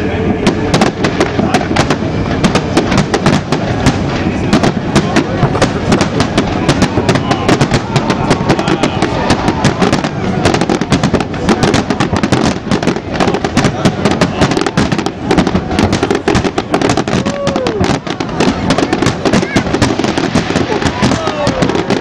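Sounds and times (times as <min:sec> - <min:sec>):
fireworks crackling: 0:00.0 - 0:22.0
fireworks bangs: 0:00.2 - 0:22.0.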